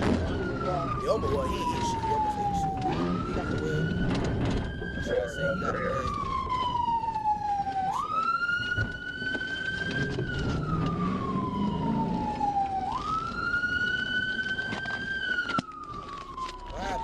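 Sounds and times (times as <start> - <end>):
police siren wailing: 0.0 - 17.0
road noise: 0.0 - 17.0.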